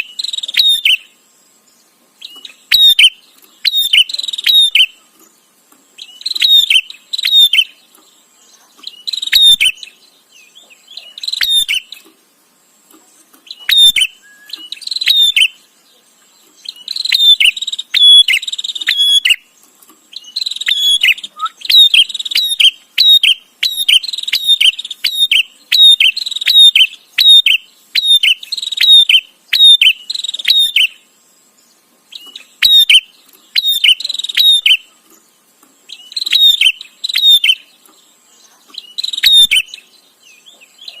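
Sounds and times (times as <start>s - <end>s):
bird chattering calls: 2.2s - 5.1s, 6.0s - 12.1s, 13.4s - 15.7s, 16.5s - 19.5s, 20.1s - 31.0s, 32.1s - 34.9s, 35.8s - 41.0s.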